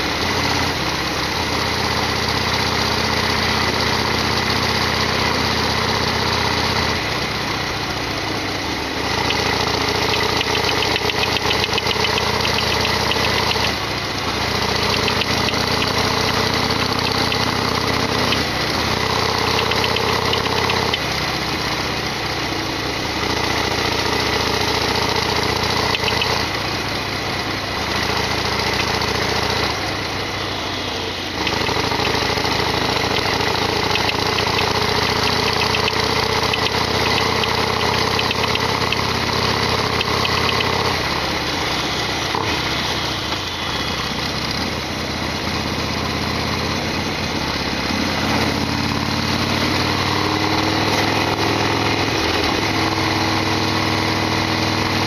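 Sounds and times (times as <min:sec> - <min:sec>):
v-twin motorcycle engine running: 0:00.0 - 0:55.0.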